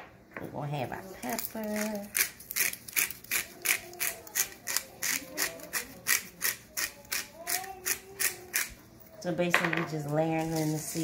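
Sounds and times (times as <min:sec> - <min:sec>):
pepper mill grinding: 0:01.0 - 0:08.8, 0:09.9 - 0:11.0.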